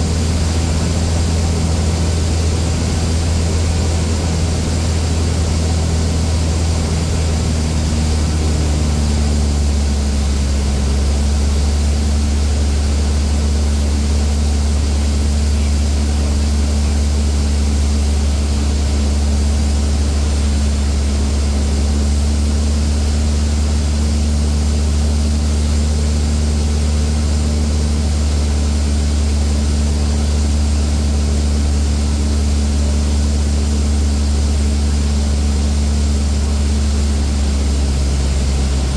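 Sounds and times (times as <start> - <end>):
plane engine and propeller droning: 0.0 - 38.9.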